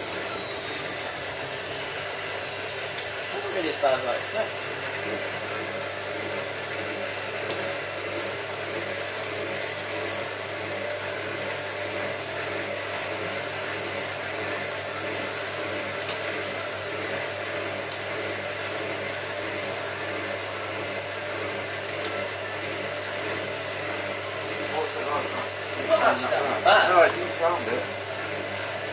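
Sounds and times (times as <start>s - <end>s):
washing machine spinning: 0.0s - 28.9s.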